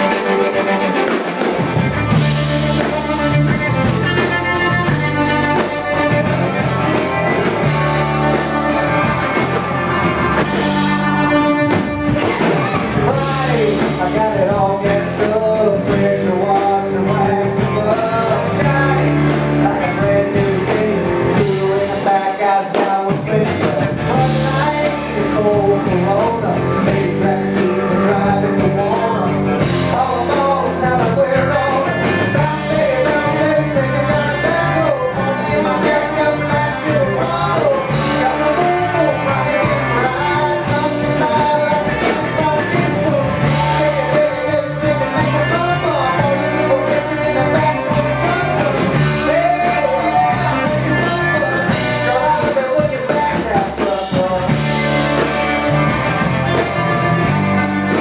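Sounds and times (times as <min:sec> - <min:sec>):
live rock band playing: 0:00.0 - 0:58.0
person singing: 0:00.0 - 0:58.0.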